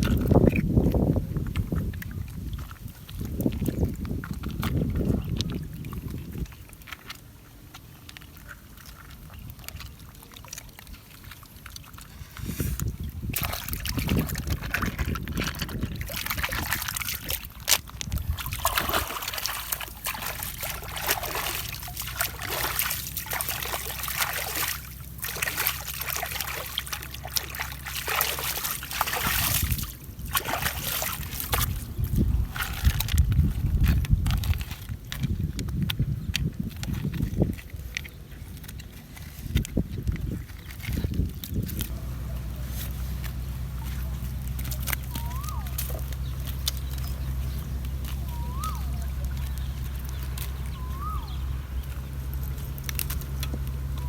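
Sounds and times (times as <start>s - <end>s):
low steady hum: 0.0s - 54.0s
water sloshing and splashing: 0.0s - 54.0s.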